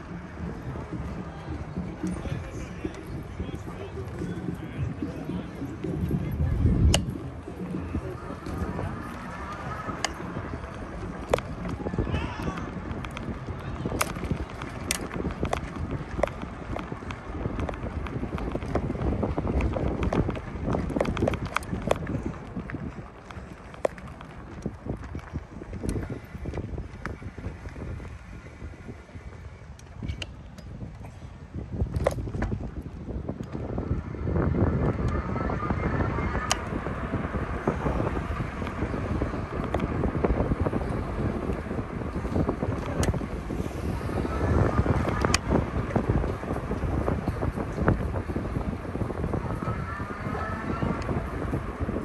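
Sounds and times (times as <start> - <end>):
bicycle clicks and rattles: 0.0 - 35.3, 35.9 - 52.0
tyres rumbling: 0.0 - 52.0
wind on microphone: 0.0 - 52.0.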